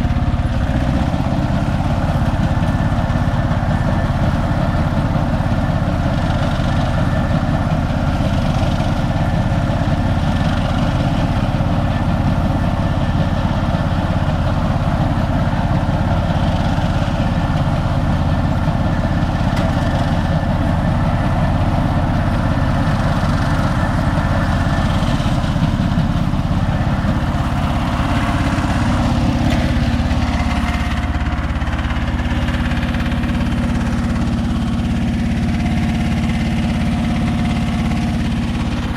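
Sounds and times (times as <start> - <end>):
harvester mechanical drone: 0.0 - 38.9.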